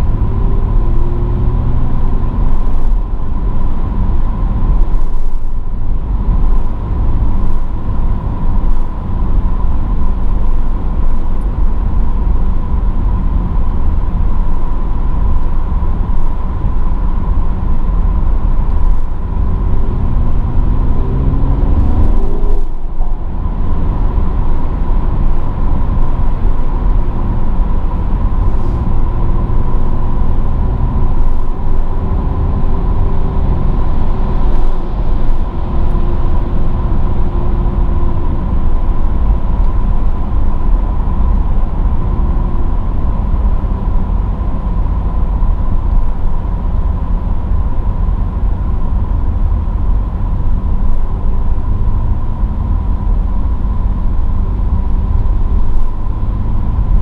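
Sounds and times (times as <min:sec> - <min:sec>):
engine and road rumble: 0:00.0 - 0:57.0.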